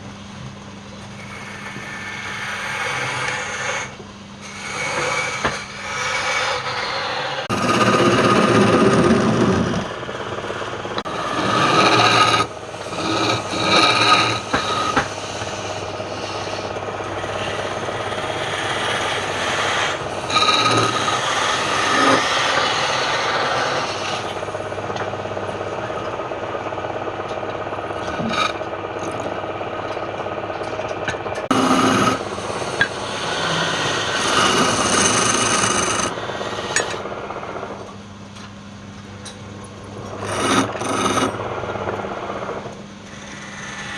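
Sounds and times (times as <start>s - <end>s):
tool scraping spinning wood: 1.2s - 37.9s, 39.9s - 43.9s
wood lathe motor hum: 1.2s - 37.9s, 40.0s - 43.9s.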